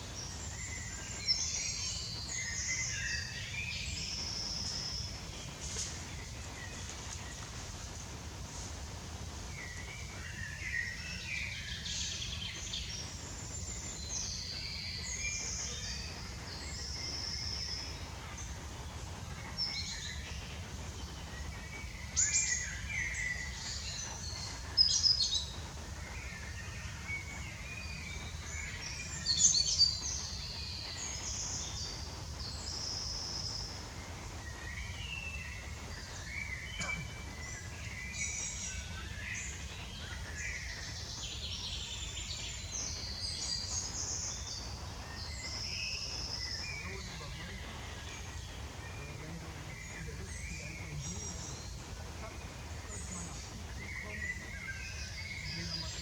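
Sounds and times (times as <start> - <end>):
birds calling and singing: 0.0 - 56.0.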